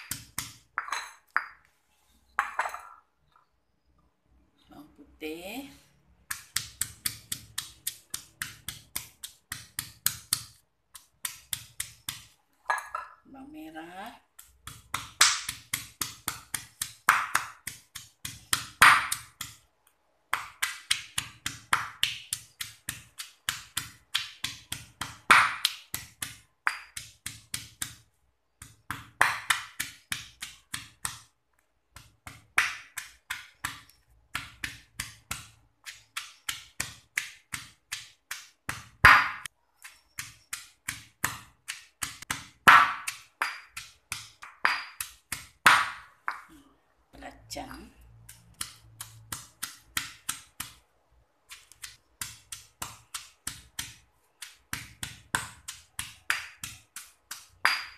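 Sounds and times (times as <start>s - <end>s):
stone pestle pounding in mortar: 0.0s - 1.5s, 6.3s - 13.1s, 14.4s - 19.7s, 20.3s - 31.3s, 31.9s - 46.5s, 48.2s - 50.8s, 51.5s - 57.9s.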